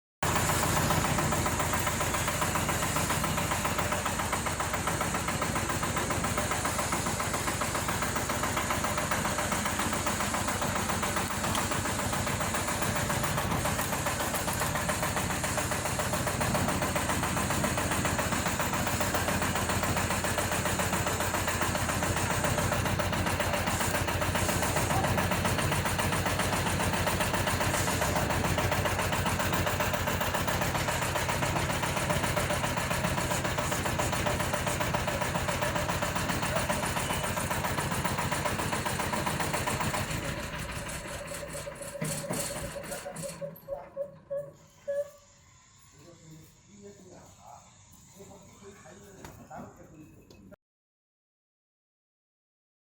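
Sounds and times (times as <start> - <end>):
small excavator engine running: 0.2 - 50.3.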